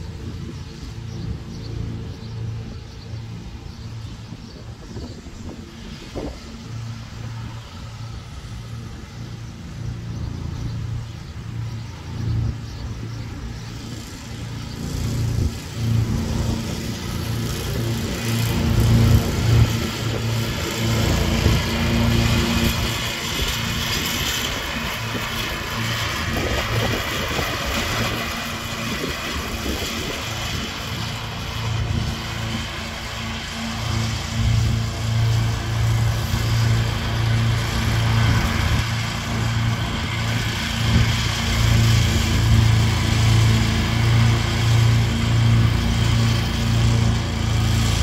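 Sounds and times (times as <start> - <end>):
mower blades hissing: 0.0 - 48.0
ride-on mower engine hum: 0.0 - 48.0.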